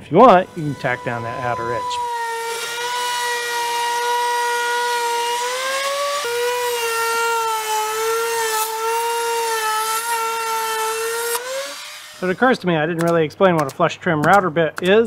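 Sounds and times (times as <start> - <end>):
trim router whine: 0.0 - 12.6.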